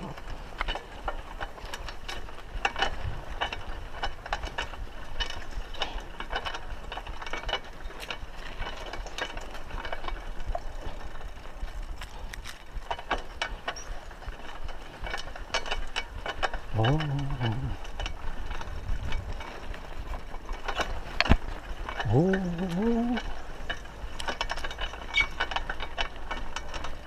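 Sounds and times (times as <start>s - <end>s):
mountain bike rattling and clicking: 0.0s - 27.0s.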